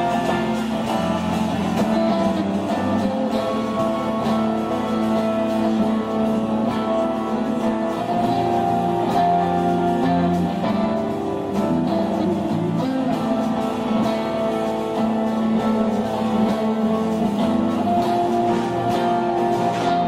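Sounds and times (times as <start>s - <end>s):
drums: 0.0s - 20.0s
electric guitar ringing chords: 0.0s - 20.0s.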